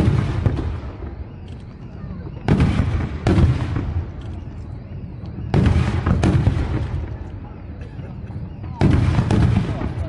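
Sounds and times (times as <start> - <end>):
firework shells booming: 0.0 - 10.0.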